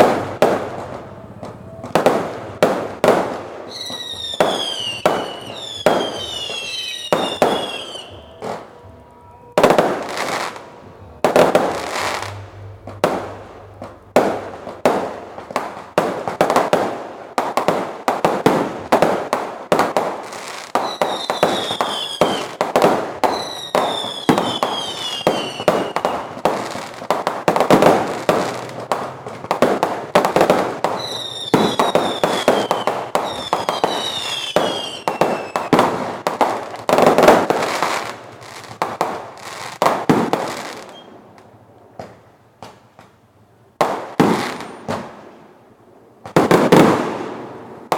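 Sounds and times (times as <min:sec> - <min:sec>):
whistling fireworks: 0:00.0 - 0:41.3, 0:43.8 - 0:45.3, 0:46.3 - 0:47.9
fireworks bangs and crackles: 0:00.0 - 0:47.9.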